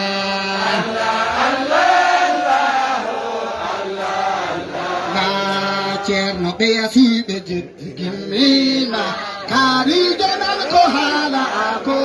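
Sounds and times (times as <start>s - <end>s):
voices chanting a religious song: 0.0s - 12.0s.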